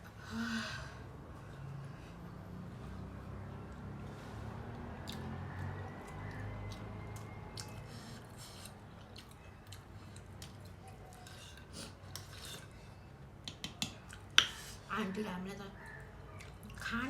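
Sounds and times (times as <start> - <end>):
chewing and crunching food: 1.1 - 14.6, 15.8 - 17.0.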